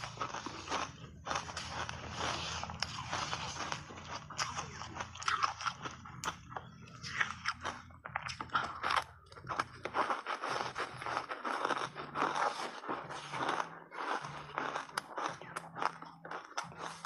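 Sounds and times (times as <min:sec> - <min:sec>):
crunching and chewing ice: 0:00.0 - 0:17.0.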